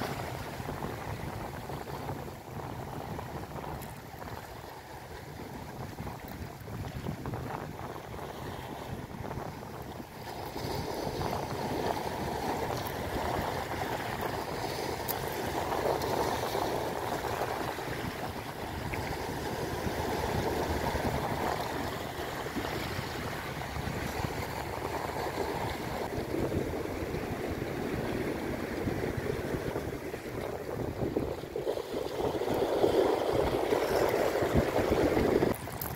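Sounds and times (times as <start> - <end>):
sea surf washing against rocks: 0.0 - 35.9.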